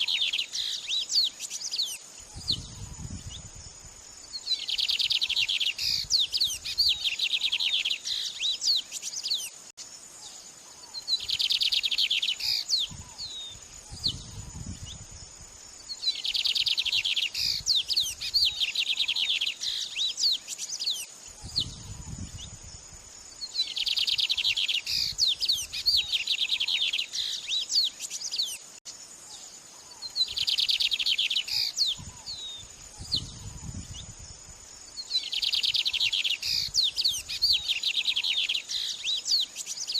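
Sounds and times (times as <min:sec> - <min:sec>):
bird trilling song: 0:00.0 - 0:03.6, 0:04.3 - 0:09.6, 0:10.2 - 0:15.0, 0:15.9 - 0:22.6, 0:23.4 - 0:28.6, 0:29.8 - 0:34.2, 0:35.0 - 0:39.9.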